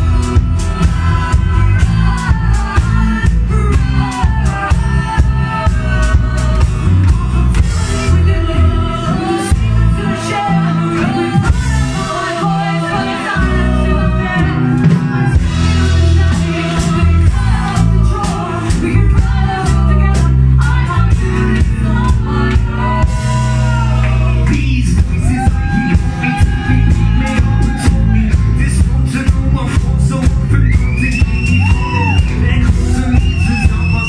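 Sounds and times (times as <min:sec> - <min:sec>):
live band playing: 0:00.0 - 0:34.0
person singing: 0:00.0 - 0:34.0.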